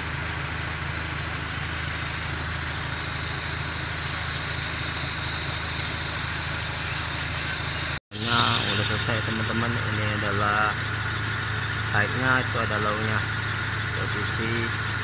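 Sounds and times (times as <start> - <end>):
air conditioning compressor hiss: 0.0 - 15.0
car engine idling: 0.0 - 15.0.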